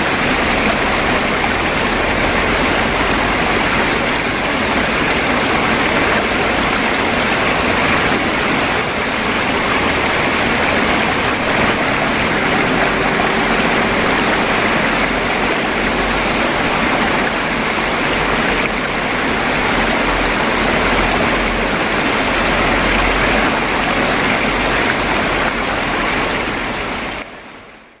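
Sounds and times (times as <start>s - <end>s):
water babbling: 0.0s - 28.0s.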